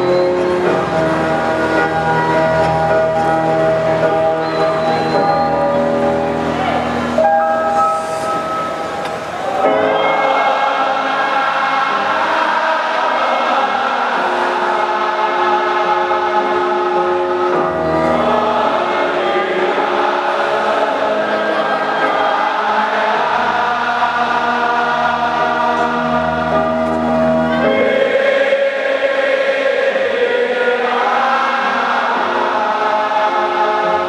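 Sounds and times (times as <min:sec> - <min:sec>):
crowd singing in unison: 0:00.0 - 0:34.0.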